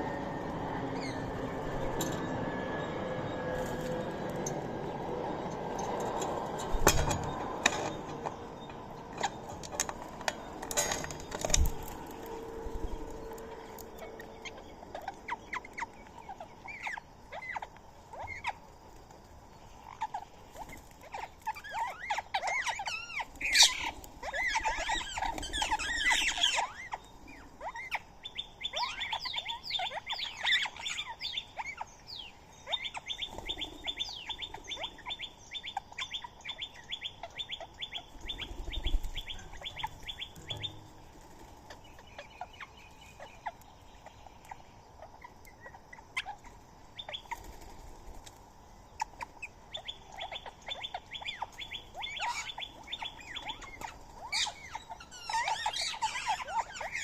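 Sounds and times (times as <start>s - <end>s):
birds chirping and squawking: 0.0s - 57.0s.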